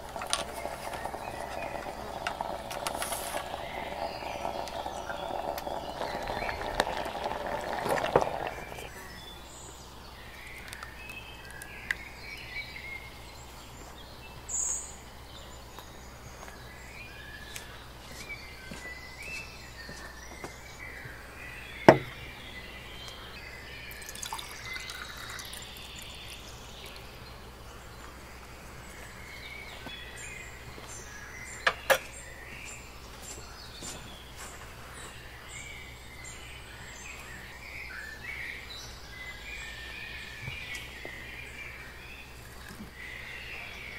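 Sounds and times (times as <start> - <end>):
birdsong: 0.0 - 43.9.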